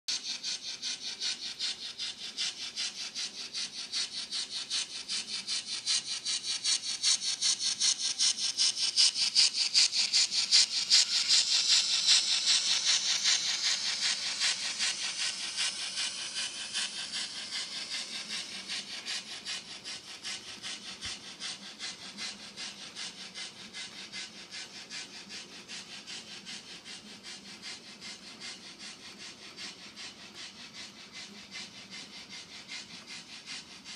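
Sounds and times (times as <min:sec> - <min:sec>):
high rolling hiss: 0:00.1 - 0:33.9
model train wheels clicking on rails: 0:00.1 - 0:33.9.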